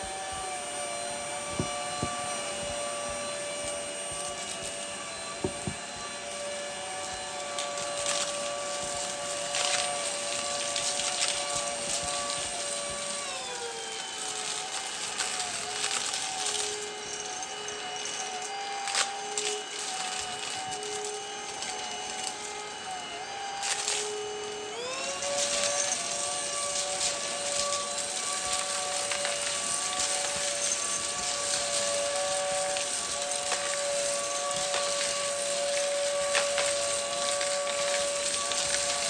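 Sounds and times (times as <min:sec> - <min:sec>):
stick vacuum motor whine: 0:00.0 - 0:39.0.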